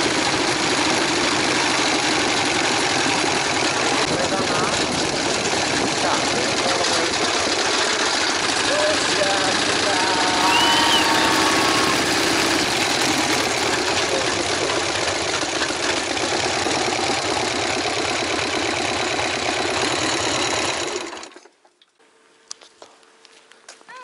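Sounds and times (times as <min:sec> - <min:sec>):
motorcycle engine at low speed: 0:00.0 - 0:21.6.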